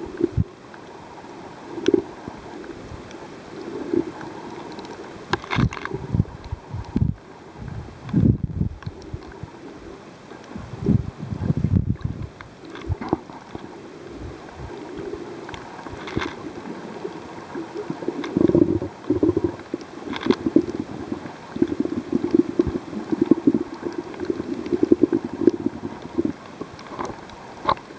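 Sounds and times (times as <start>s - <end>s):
muffled underwater sloshing: 0.0s - 27.9s.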